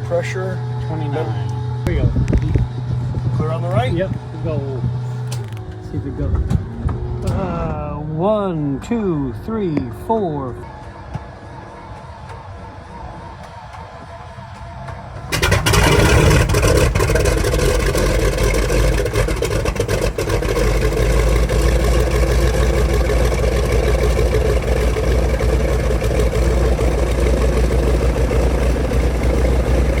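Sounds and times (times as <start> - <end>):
radial engine starting and running: 0.0 - 30.0.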